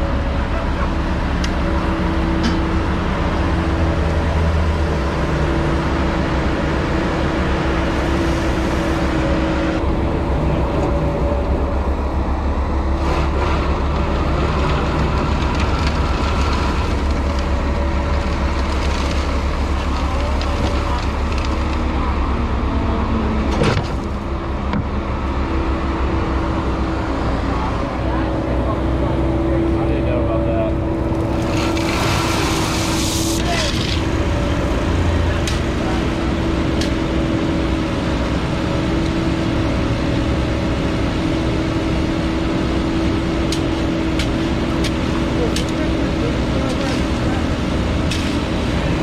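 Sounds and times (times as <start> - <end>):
construction equipment engine running: 0.0 - 49.0.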